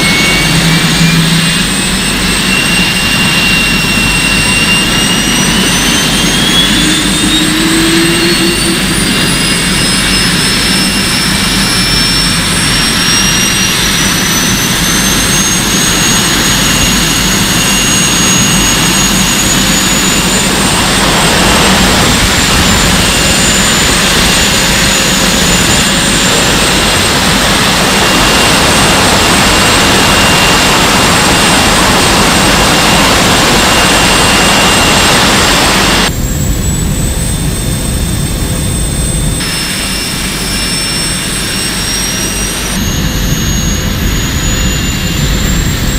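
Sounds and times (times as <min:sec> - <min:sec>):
jet engines roaring and whining: 0:00.0 - 0:45.9.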